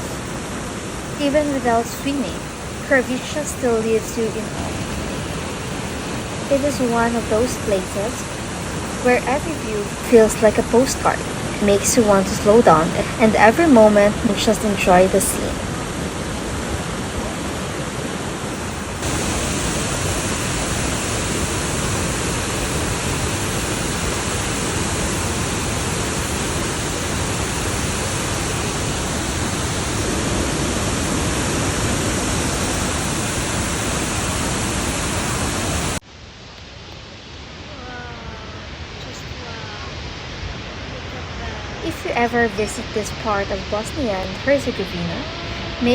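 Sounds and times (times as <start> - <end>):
waterfall roaring: 0.0 - 45.9.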